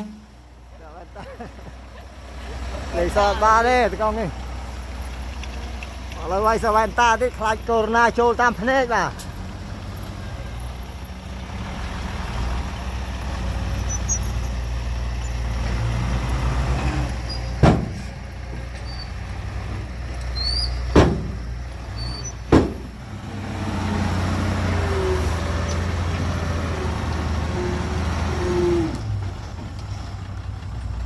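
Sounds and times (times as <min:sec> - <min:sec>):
diesel machinery humming: 0:00.0 - 0:31.0.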